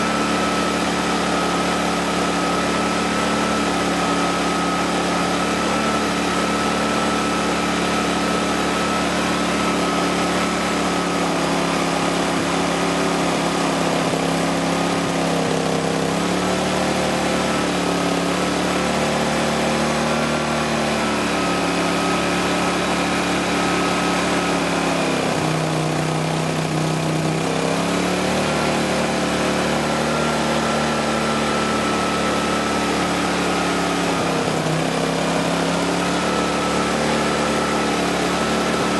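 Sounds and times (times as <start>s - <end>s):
generator engine surging: 0.0s - 38.9s.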